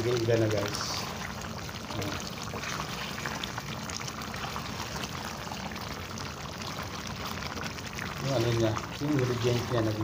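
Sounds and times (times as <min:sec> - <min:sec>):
curry sauce bubbling in pot: 0:00.0 - 0:10.0.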